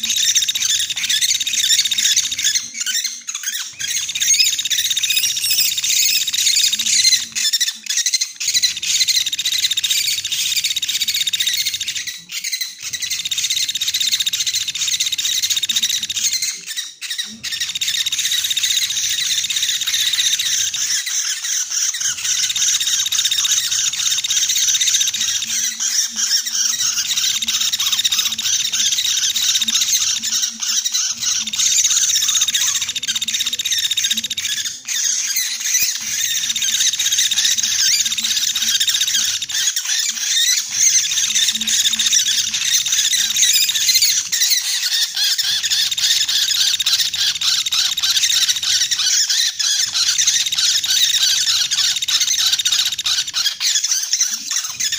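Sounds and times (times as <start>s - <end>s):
woodpecker rapid chattering: 0.0s - 54.9s.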